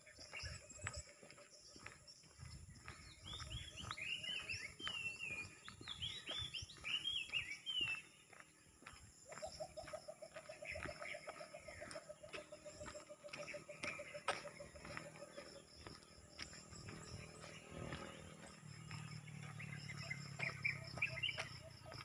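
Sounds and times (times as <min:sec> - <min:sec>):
birds whistling: 0:02.8 - 0:08.2, 0:09.3 - 0:22.0.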